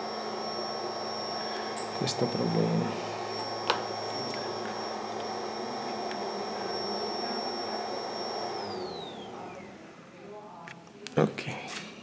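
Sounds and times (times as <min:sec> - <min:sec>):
electric blower motor whining: 0:00.0 - 0:10.1.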